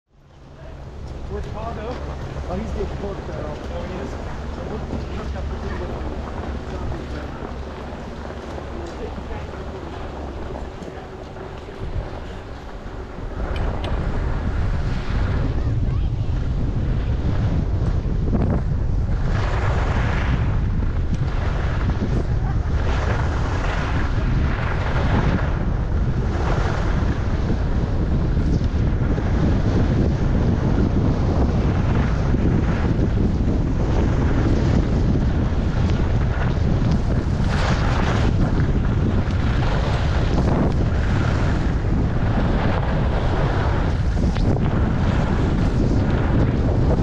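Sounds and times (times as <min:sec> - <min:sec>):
wind buffeting microphone: 0:00.1 - 0:47.0
skis sliding on snow: 0:01.2 - 0:16.0, 0:19.1 - 0:20.6, 0:21.2 - 0:27.4, 0:30.7 - 0:47.0.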